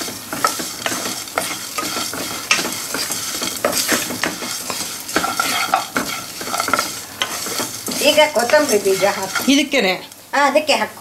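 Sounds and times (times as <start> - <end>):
wooden spatula scraping a wok: 0.0 - 10.2
spices sizzling in oil: 0.0 - 11.0.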